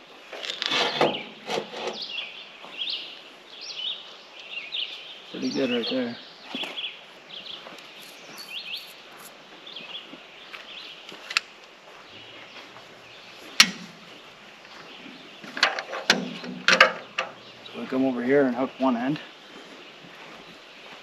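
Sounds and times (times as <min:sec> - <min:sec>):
outdoor background noise: 0:00.0 - 0:21.0
small birds chirping: 0:00.9 - 0:21.0.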